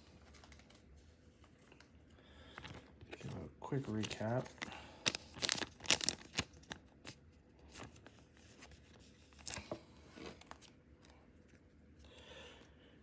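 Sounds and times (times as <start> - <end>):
plastic sleeve crinkling: 0.0 - 11.7
trading cards rustling: 0.0 - 11.7.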